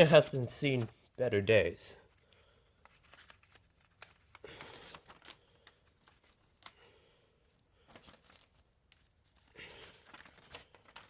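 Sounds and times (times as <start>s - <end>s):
paper pages rustling: 0.0s - 1.2s, 2.0s - 7.0s, 7.6s - 11.0s.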